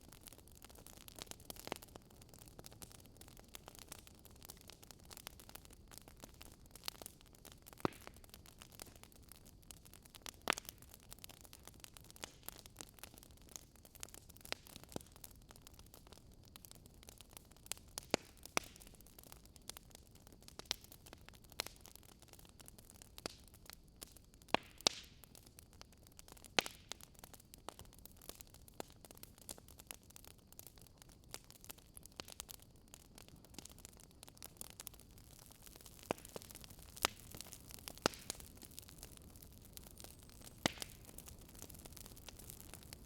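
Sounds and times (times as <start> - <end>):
fire crackling and popping: 0.0 - 43.0.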